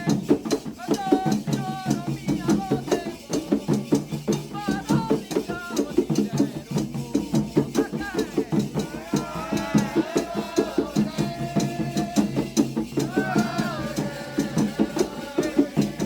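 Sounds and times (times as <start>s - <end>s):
hand drums: 0.0s - 16.0s
voices singing a chant: 0.0s - 16.0s
rattle fast even beat: 0.6s - 16.0s.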